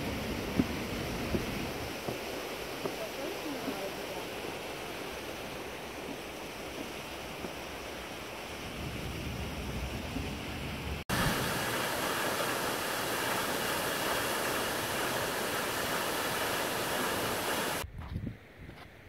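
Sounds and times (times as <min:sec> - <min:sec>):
waterfall rushing: 0:00.0 - 0:17.8
wind rumbling on microphone: 0:00.0 - 0:19.0.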